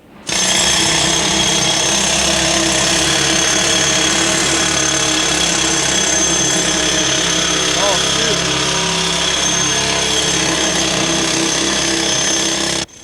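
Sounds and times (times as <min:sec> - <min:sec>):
jackhammer hammering: 0:00.3 - 0:13.0.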